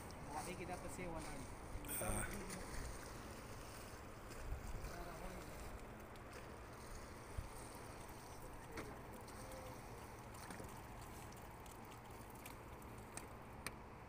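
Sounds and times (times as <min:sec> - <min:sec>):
flowing river water: 0:00.0 - 0:14.0.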